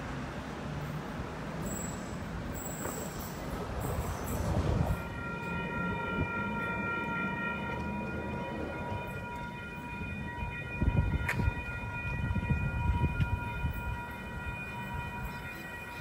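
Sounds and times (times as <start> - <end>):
train low rumble: 0.0 - 16.0
electric train high whine: 0.7 - 16.0.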